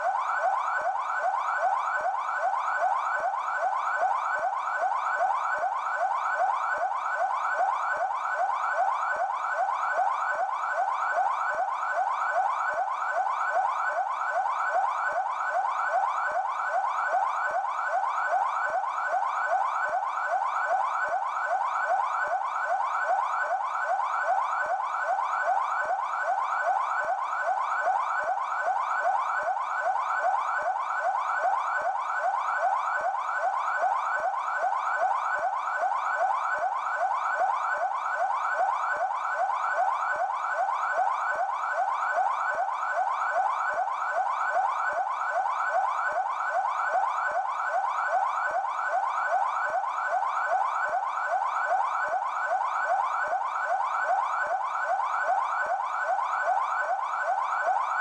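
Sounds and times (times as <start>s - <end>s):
police siren yelp: 0.0s - 58.0s.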